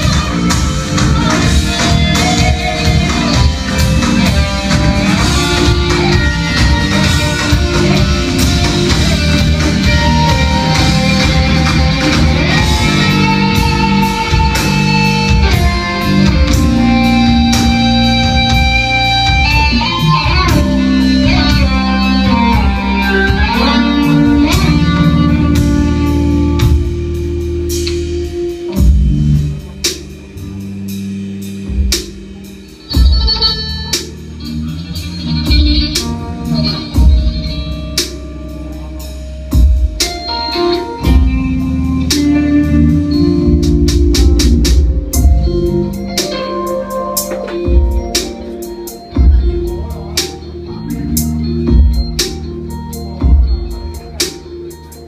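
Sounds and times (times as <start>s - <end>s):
bending guitar notes: 0.0s - 55.0s
rock band jamming: 0.0s - 55.0s.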